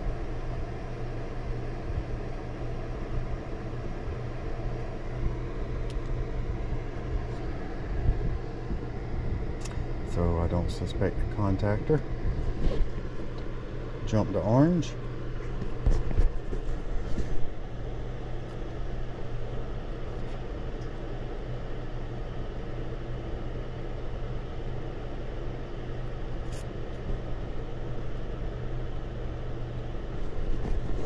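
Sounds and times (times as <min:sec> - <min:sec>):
hvac equipment humming: 0:00.0 - 0:31.0.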